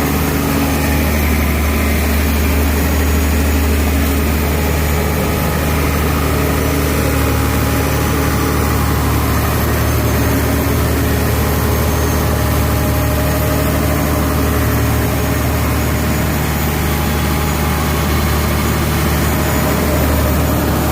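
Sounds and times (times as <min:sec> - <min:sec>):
generator engine running: 0:00.0 - 0:20.9.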